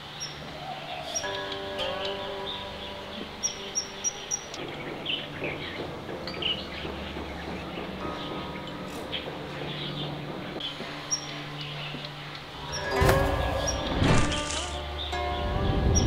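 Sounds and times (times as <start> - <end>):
birds chirping: 0.0 - 16.0
outdoor background noise: 0.0 - 16.0
sustained musical tone: 0.0 - 16.0.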